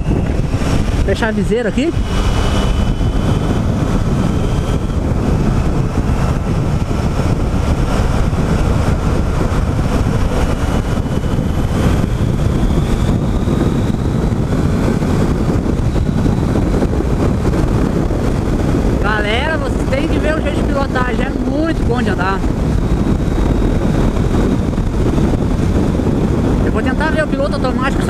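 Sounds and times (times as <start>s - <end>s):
faint motorcycle engine: 0.0s - 28.0s
wind buffeting microphone: 0.0s - 28.0s.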